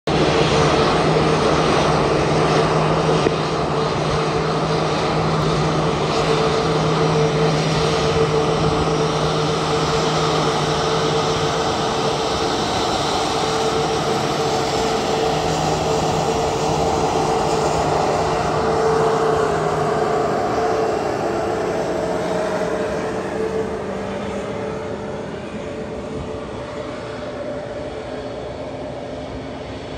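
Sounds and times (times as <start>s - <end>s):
jet engines whining: 0.1s - 29.9s.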